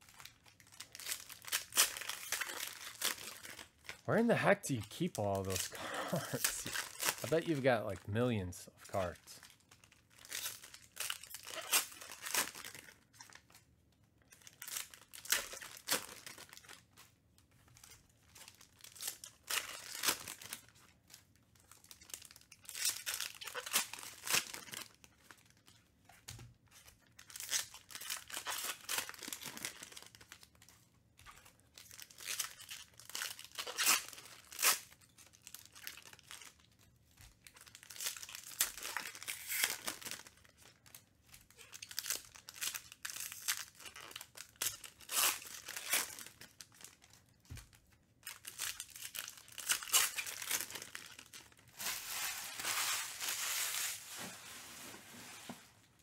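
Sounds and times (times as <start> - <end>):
foil wrappers tearing and crinkling: 0.0 - 4.1, 4.8 - 7.7, 8.9 - 13.6, 14.3 - 16.9, 17.8 - 25.8, 26.7 - 30.7, 31.3 - 55.5.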